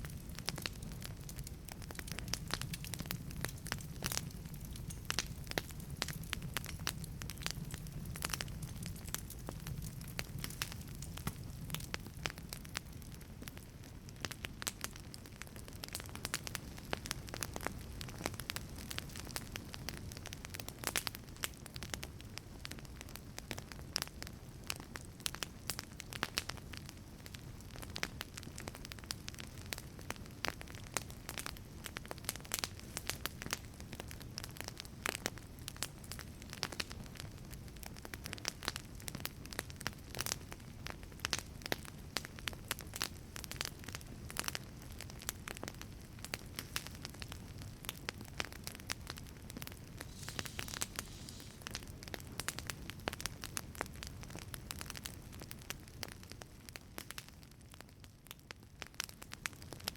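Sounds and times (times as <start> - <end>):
wood fire rumbling and crackling: 0.0 - 59.9.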